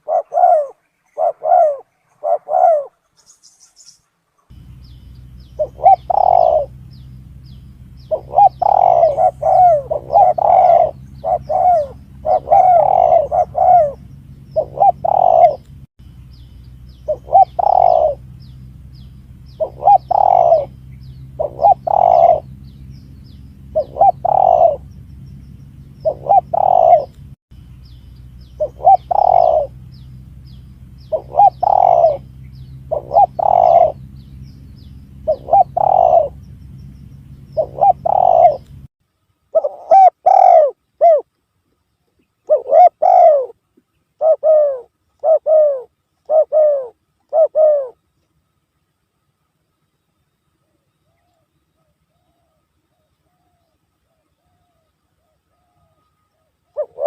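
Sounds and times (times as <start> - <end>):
dove cooing: 0.0 - 3.3, 4.5 - 15.7, 17.0 - 18.5, 19.3 - 25.1, 25.8 - 27.2, 28.5 - 36.6, 37.2 - 38.9, 39.5 - 41.3, 42.4 - 43.6, 44.2 - 48.0, 51.1 - 57.0
steady low hum: 0.0 - 57.0.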